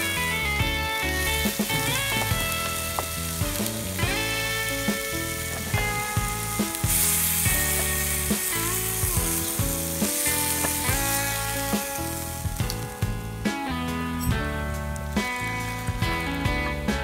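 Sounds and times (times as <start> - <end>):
background music: 0.0 - 17.0
meat sizzling in a skillet: 0.0 - 17.0.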